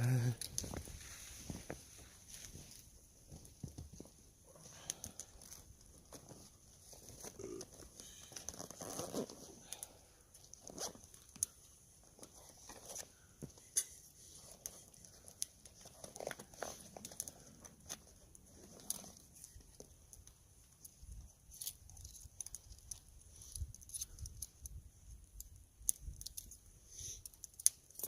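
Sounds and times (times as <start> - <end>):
campfire crackling and popping: 0.1 - 28.0.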